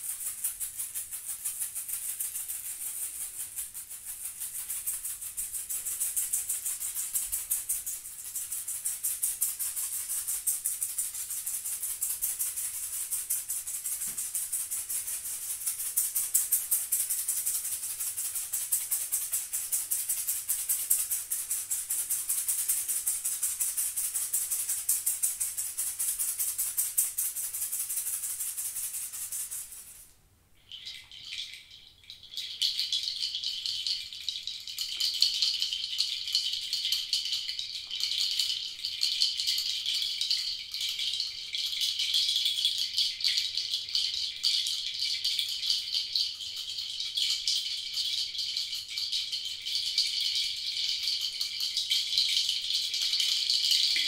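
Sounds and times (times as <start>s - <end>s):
high hiss-like shaker: 0.0s - 54.0s
lower coarse shaker rattle: 0.0s - 54.0s.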